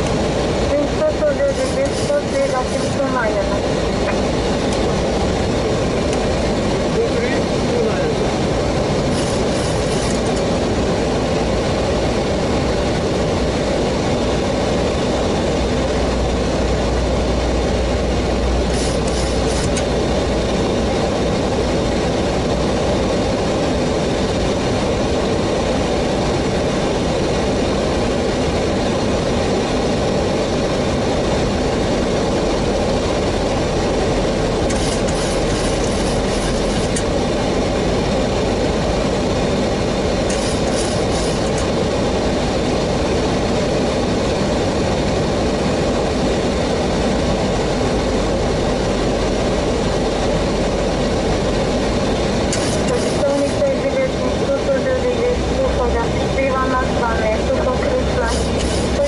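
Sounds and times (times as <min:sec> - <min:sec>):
airliner cockpit airflow and engine: 0:00.0 - 0:59.0.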